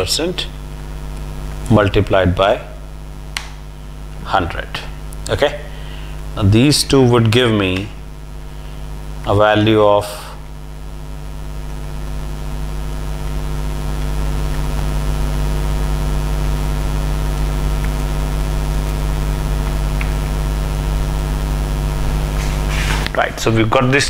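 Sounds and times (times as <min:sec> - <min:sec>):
buzzing background hum: 0:00.0 - 0:24.0.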